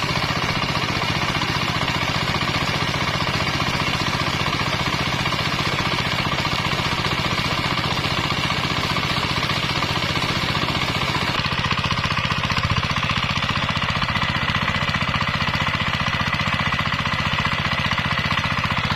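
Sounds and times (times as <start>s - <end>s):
diesel engine knocking: 0.0s - 18.9s.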